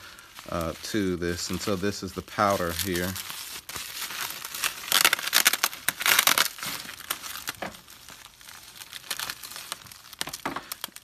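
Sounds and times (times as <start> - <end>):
bubble wrap crackling: 0.0 - 11.0.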